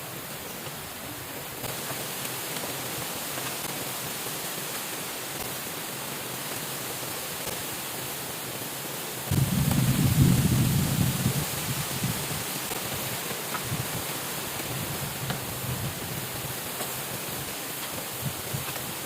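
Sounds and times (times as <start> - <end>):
hiss of water: 0.0 - 19.0.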